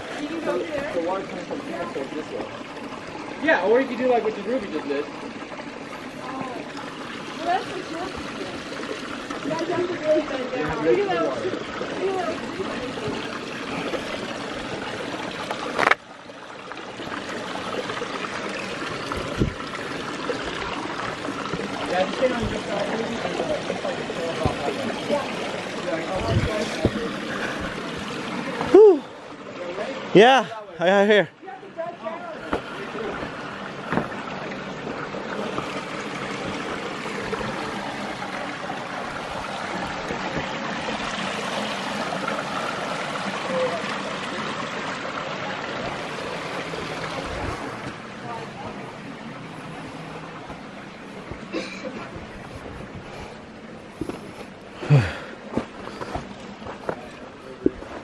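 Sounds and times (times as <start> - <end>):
creek water running over rocks: 0.0 - 58.0.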